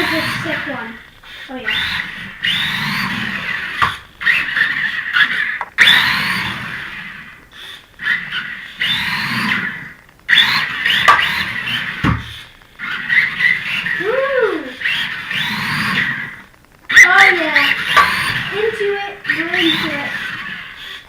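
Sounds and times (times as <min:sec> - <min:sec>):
electric rc car motor whining: 0:00.0 - 0:21.0.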